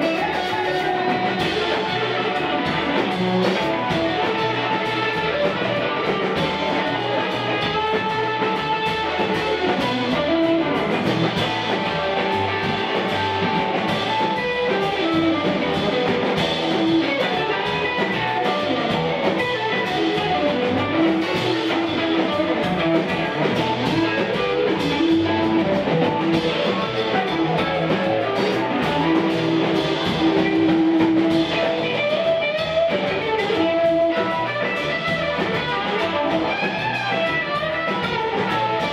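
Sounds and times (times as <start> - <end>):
drum kit: 0.0 - 38.9
electric guitar lead: 0.0 - 38.9
upright double bass: 0.0 - 38.9.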